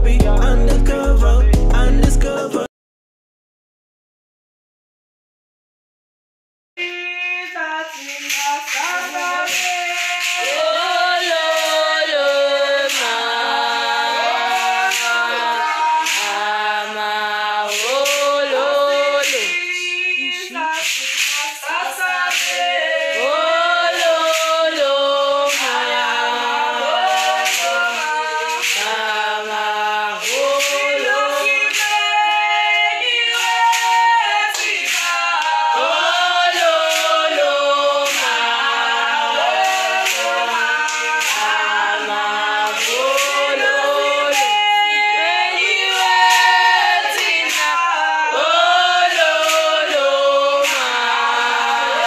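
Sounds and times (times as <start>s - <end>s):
sharp percussive beats: 0.0s - 2.7s, 8.0s - 52.0s
women singing in harmony: 6.8s - 52.0s.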